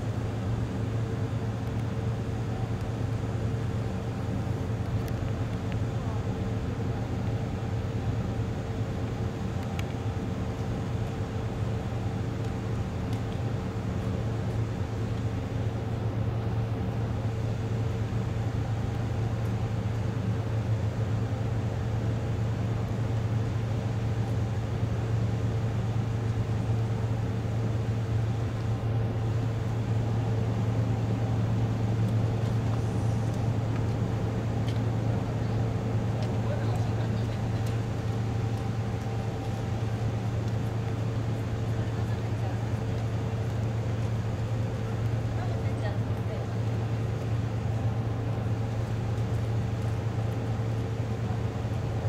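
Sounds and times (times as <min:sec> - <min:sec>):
faint steady whine: 0:00.0 - 0:52.0.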